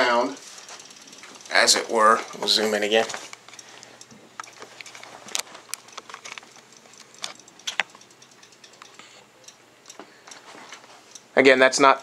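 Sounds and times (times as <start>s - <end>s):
light clicks and taps: 0.6s - 11.3s.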